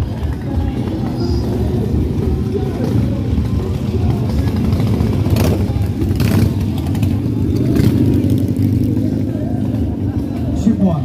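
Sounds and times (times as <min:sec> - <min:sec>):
motorcycles riding past: 0:00.0 - 0:11.0.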